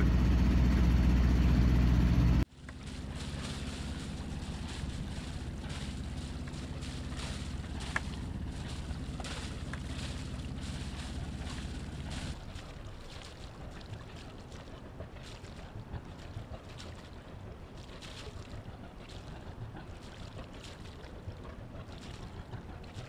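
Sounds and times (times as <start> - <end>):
boat engine running: 0.0 - 23.0
water washing along hull: 0.0 - 23.0.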